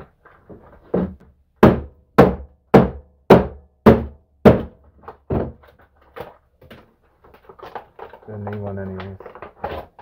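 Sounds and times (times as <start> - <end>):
hammer striking plastic pack: 1.0 - 10.0.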